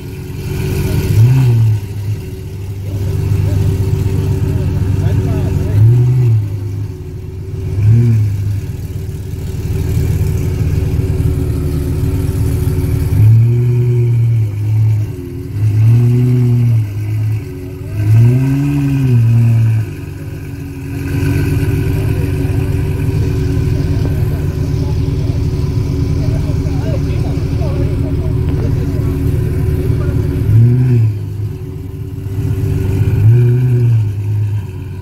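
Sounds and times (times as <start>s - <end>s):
car engine idling: 0.0s - 35.0s
car engine revving: 0.0s - 35.0s.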